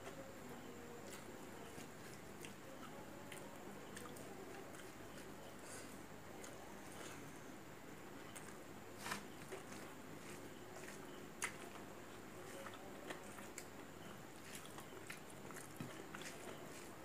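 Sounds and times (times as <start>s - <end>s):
chewing: 1.0s - 7.3s, 8.2s - 17.0s.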